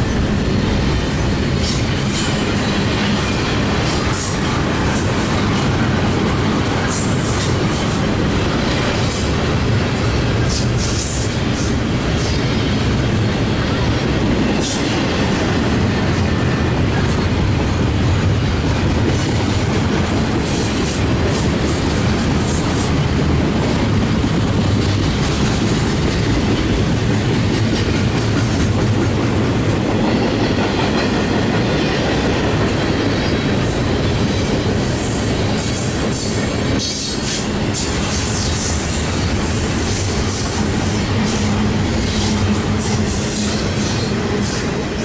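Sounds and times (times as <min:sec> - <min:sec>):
freight train wheels rumbling on rail: 0:00.0 - 0:45.0.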